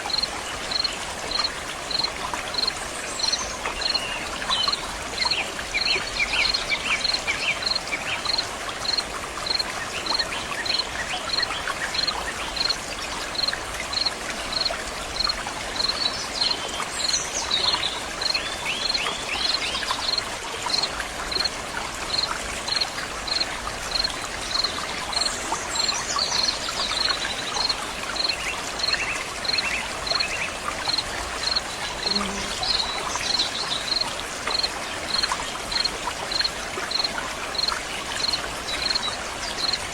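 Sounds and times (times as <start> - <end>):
water running and trickling: 0.0 - 39.9
insect chirping: 0.1 - 4.0, 4.6 - 16.5, 18.2 - 21.5, 22.1 - 39.8.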